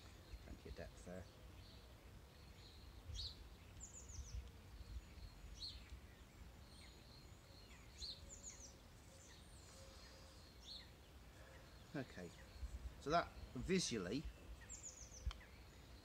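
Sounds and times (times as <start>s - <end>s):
songbird chirps and trills: 0.0s - 16.0s.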